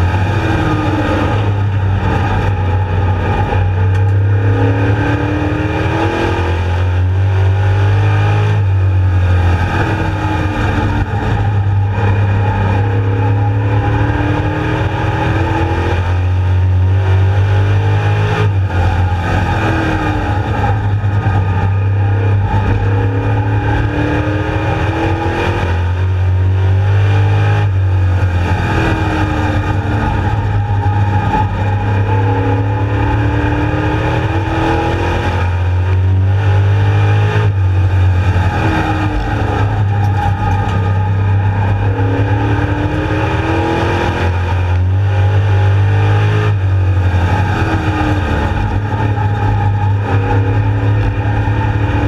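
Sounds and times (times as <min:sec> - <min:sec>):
race car engine accelerating: 0:00.0 - 0:52.0.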